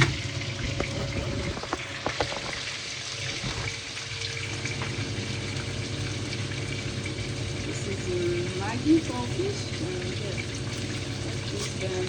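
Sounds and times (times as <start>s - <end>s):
sauce sizzling in a pan: 0.3s - 12.0s.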